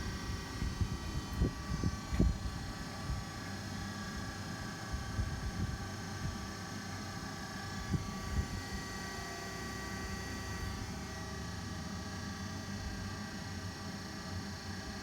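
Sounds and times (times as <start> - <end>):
grinder machine humming and whining: 0.0 - 15.0.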